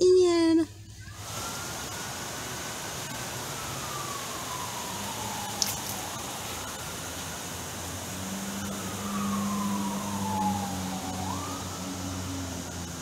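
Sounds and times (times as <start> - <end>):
distant siren wailing: 0.8 - 13.0.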